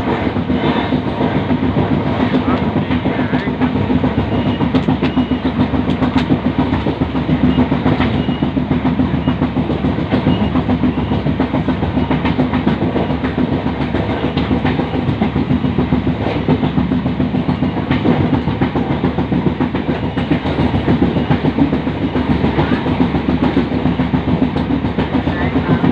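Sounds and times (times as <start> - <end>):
train rumbling on tracks: 0.0 - 25.9.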